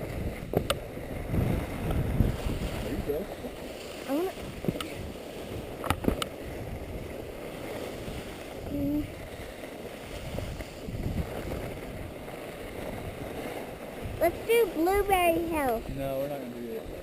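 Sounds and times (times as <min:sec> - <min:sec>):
skis scraping over snow: 0:00.0 - 0:17.0
wind on microphone: 0:00.0 - 0:17.0.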